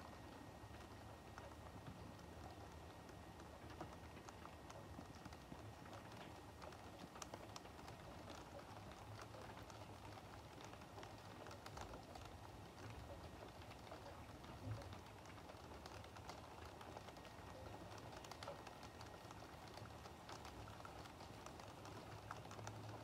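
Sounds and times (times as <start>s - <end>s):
low steady hum: 0.0s - 23.0s
raindrops ticking and pattering: 0.0s - 23.0s.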